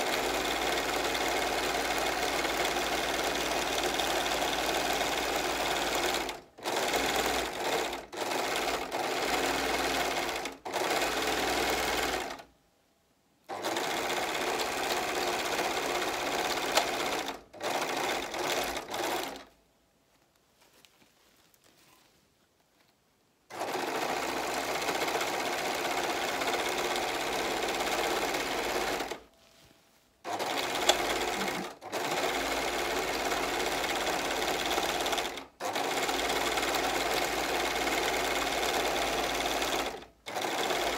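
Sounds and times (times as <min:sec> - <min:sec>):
serger sewing machine stitching: 0:00.0 - 0:12.5, 0:13.5 - 0:19.5, 0:23.5 - 0:29.3, 0:30.2 - 0:40.9.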